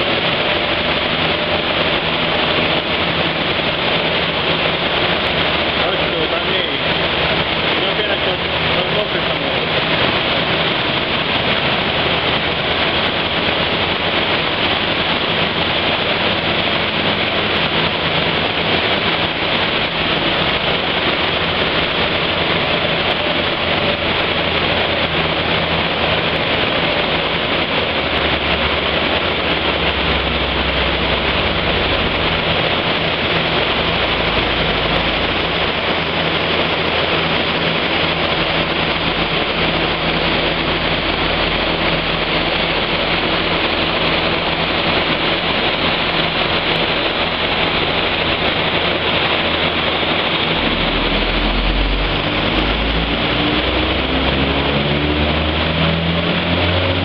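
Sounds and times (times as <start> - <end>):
car engine running steadily: 0.0 - 57.0
deeper rumble: 0.0 - 57.0.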